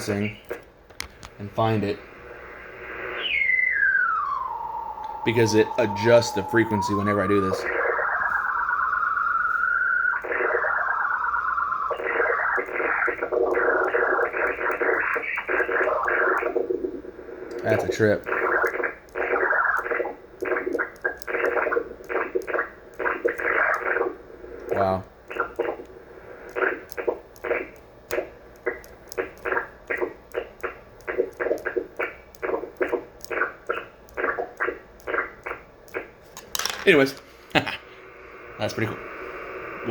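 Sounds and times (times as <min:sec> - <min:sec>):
warbling radio whistle tone: 0:01.8 - 0:36.1, 0:37.8 - 0:39.9.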